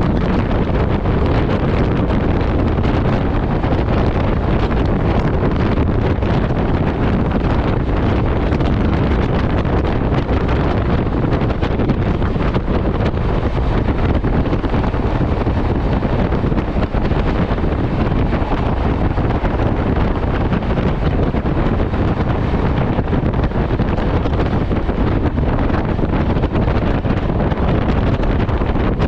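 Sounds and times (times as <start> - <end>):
train wheels rumbling on rails: 0.0 - 29.0
wind rushing over microphone: 0.0 - 29.0.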